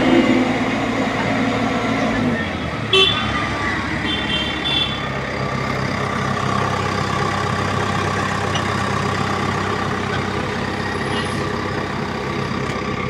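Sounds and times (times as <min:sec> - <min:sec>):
road roller diesel engine humming: 0:00.0 - 0:13.0.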